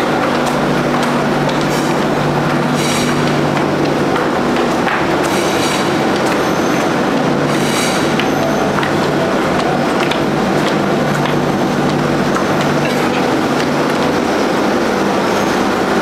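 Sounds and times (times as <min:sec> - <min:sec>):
factory machinery din: 0:00.0 - 0:16.0.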